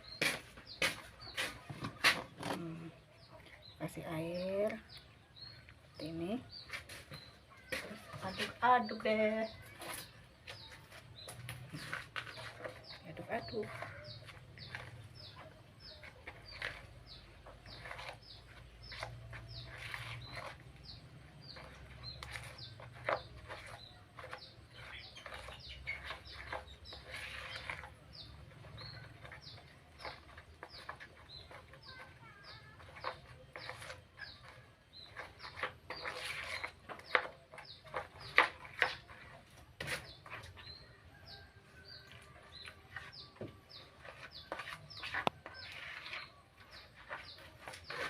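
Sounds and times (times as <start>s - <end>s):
birds chirping: 0.0s - 48.0s
spoon stirring batter in a bowl: 4.7s - 48.0s.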